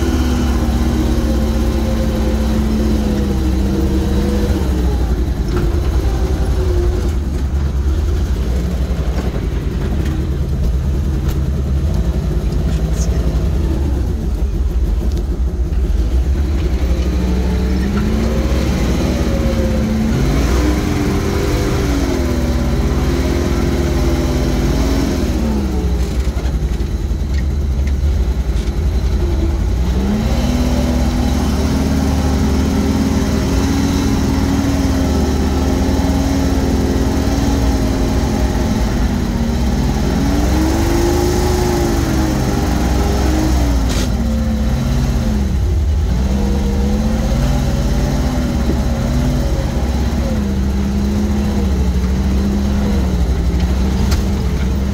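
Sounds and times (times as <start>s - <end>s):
truck engine running under load: 0.0s - 54.9s.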